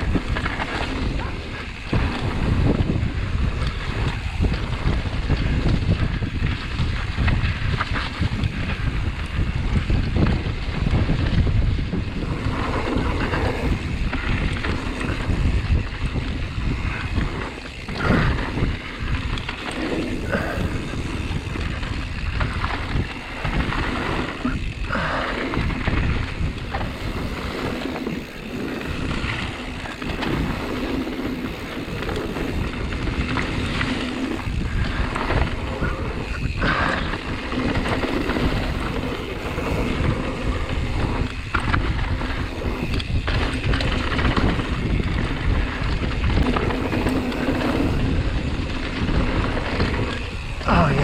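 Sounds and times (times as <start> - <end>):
bike knocks and rattles: 0.0 - 51.0
tyre and wind rush: 0.0 - 51.0.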